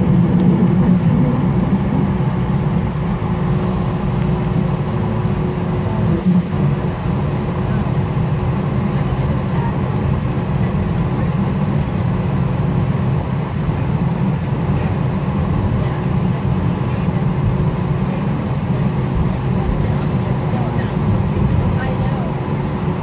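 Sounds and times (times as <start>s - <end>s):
aircraft cabin engine rumble: 0.0s - 23.0s.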